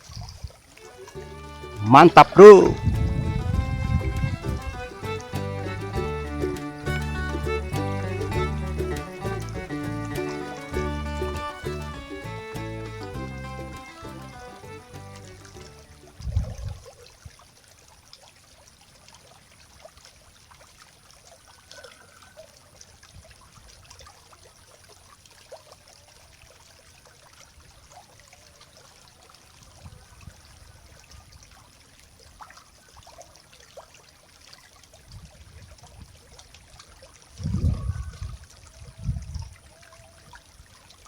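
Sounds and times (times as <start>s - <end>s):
stream trickling: 0.0s - 41.0s.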